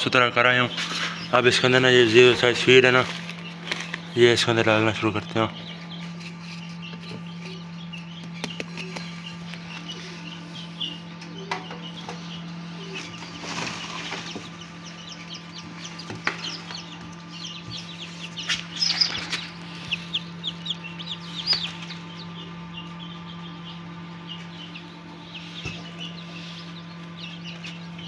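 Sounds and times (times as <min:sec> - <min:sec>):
chicks peeping: 0:00.0 - 0:28.0
steady low hum: 0:00.0 - 0:28.0.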